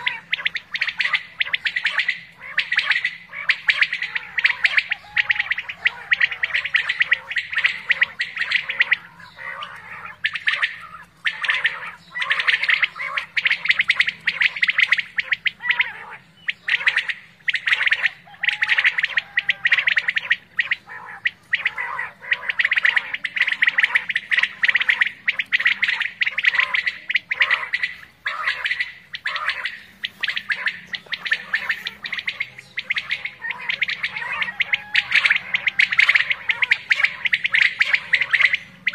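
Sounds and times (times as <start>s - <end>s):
quail calling in rapid bursts: 0.0s - 38.9s.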